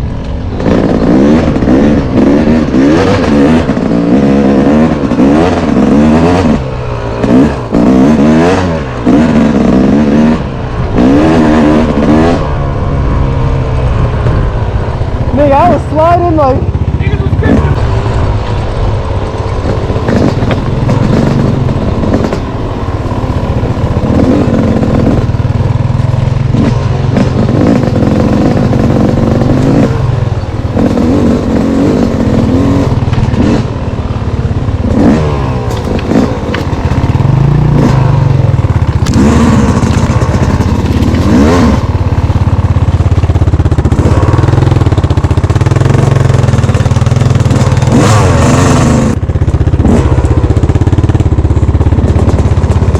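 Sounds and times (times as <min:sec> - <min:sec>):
off-road vehicle engine revving: 0:00.5 - 0:52.9.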